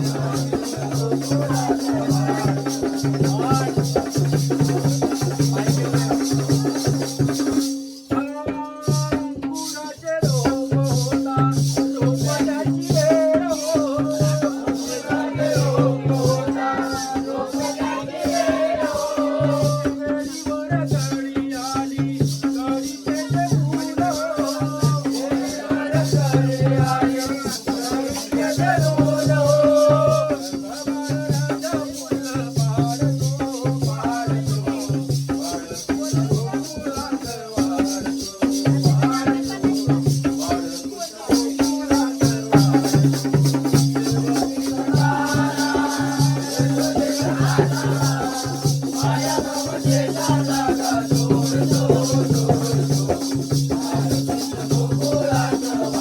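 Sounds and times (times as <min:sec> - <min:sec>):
drum beat: 0:00.0 - 0:56.0
rattling jingle: 0:08.8 - 0:56.0.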